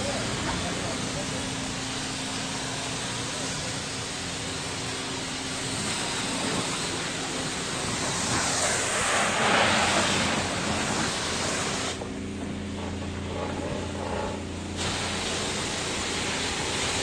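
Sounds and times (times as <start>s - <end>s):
pressure washer spraying water: 0.0s - 17.0s.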